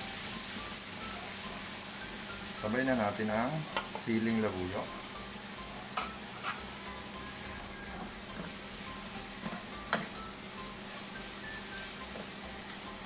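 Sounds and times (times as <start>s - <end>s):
faint background music: 0.0s - 13.0s
vegetables sizzling in oil: 0.0s - 13.0s.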